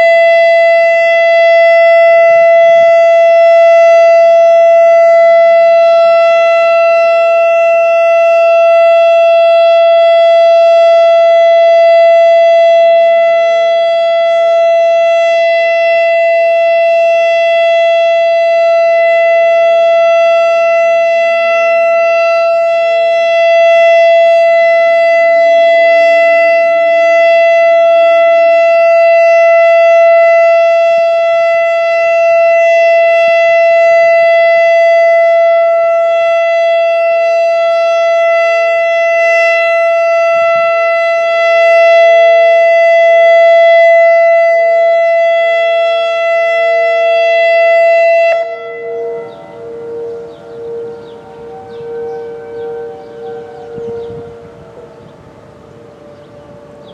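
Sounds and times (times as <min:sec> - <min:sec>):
steady warning siren tone: 0:00.0 - 0:56.9.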